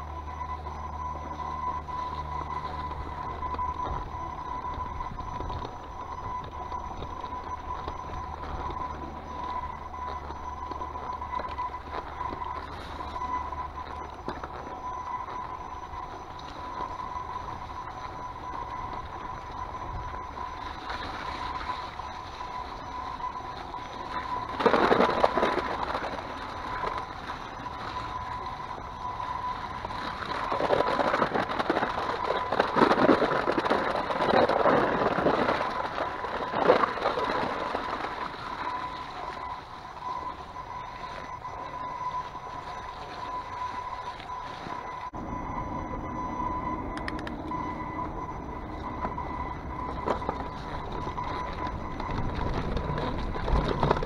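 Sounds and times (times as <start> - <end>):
bike rattling: 0.0 - 54.0
bike tyre noise: 0.0 - 54.0
steady high whine: 0.0 - 54.0.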